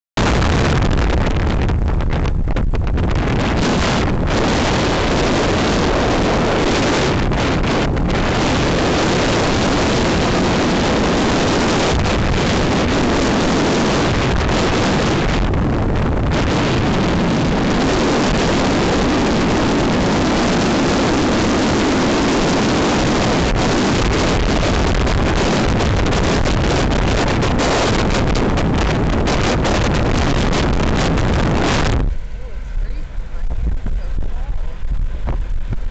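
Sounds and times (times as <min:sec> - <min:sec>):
car wind and road noise: 0:00.2 - 0:35.9
wind buffeting microphone: 0:00.2 - 0:35.9.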